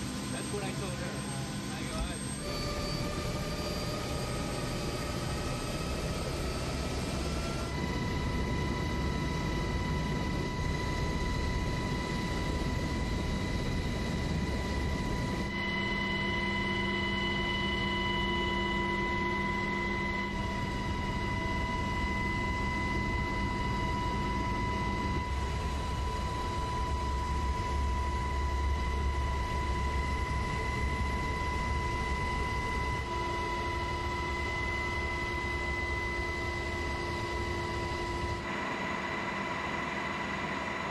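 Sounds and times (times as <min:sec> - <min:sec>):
helicopter turbine whine: 0:00.0 - 0:40.9.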